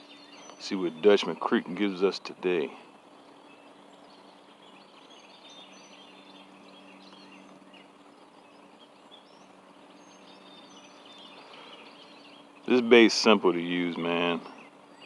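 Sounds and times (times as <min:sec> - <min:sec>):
small bird chirps: 0:00.0 - 0:15.0
steady low hum: 0:00.0 - 0:15.0.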